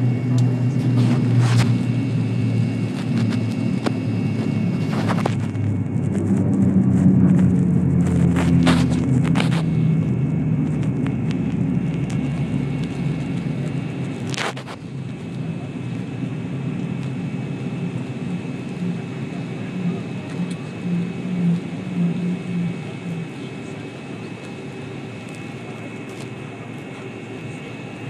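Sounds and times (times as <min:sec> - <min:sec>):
jet engine and runway rumble: 0:00.0 - 0:28.0
steady high whine: 0:00.0 - 0:28.0.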